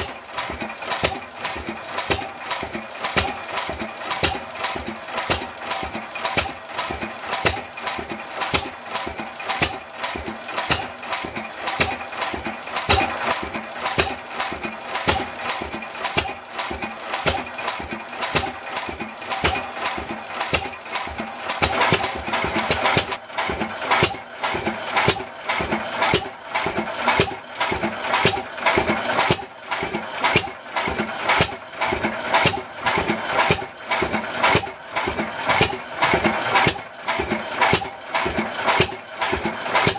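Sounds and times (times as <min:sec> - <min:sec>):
stationary engine knocking: 0:00.0 - 0:39.9.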